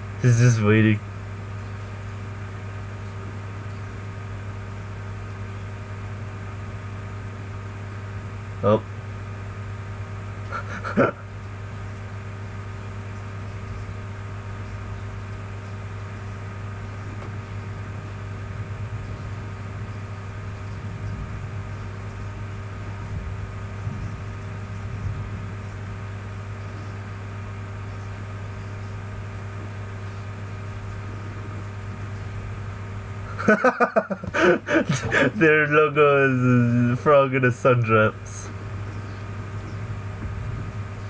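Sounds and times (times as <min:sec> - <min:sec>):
low room hum with higher tones: 0:00.0 - 0:41.0.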